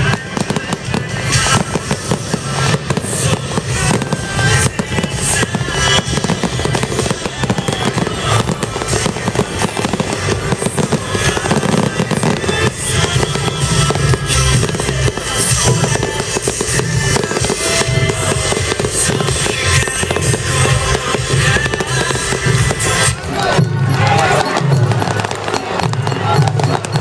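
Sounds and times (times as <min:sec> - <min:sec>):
fireworks bursting and crackling: 0:00.0 - 0:27.0
music playing: 0:00.0 - 0:27.0.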